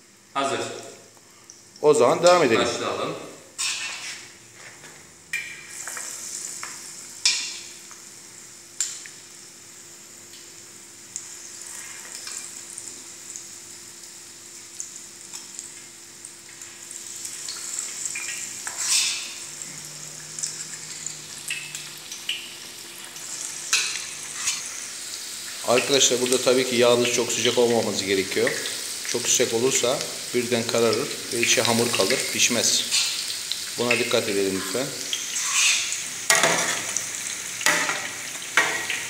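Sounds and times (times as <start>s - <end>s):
batter sizzling in hot oil: 3.5s - 39.0s.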